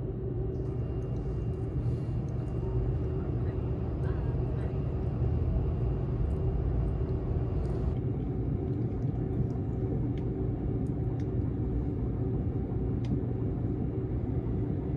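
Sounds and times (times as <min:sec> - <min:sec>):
train cabin low rumble: 0:00.0 - 0:14.9.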